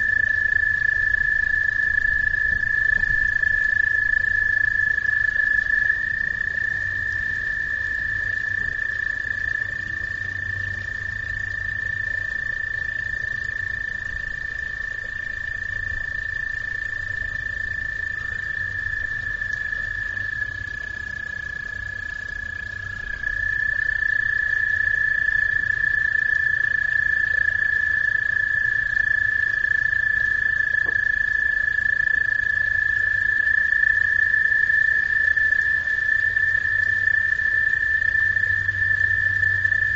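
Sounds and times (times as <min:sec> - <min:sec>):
frogs calling in chorus: 0:00.0 - 0:39.9.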